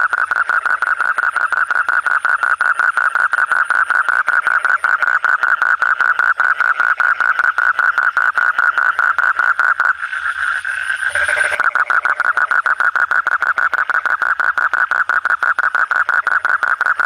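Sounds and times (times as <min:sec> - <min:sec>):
toad trilling call: 0:00.0 - 0:17.0.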